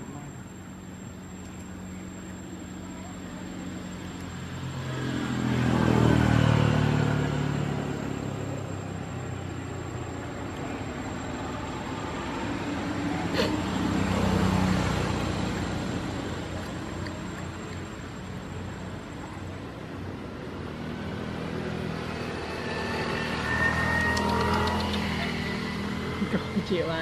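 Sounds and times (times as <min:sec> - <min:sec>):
motor vehicles passing by: 0:00.0 - 0:27.0.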